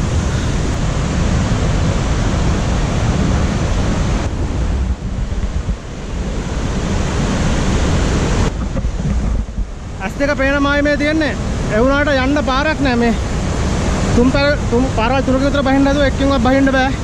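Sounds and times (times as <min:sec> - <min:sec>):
waterfall and river rushing: 0:00.0 - 0:17.0
wind buffeting microphone: 0:00.0 - 0:17.0.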